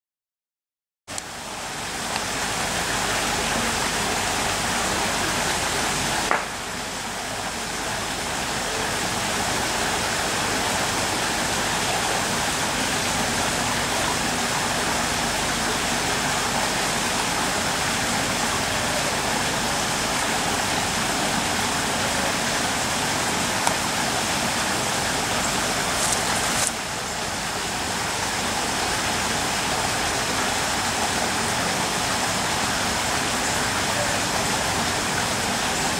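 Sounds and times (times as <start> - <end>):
steady outdoor rushing noise: 1.1 - 35.9.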